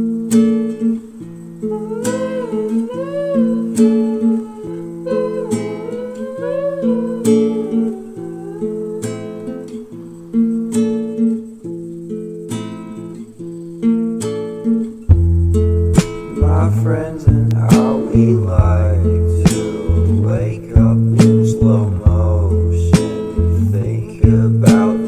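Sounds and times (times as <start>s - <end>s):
strummed acoustic guitar chords: 0.0s - 25.0s.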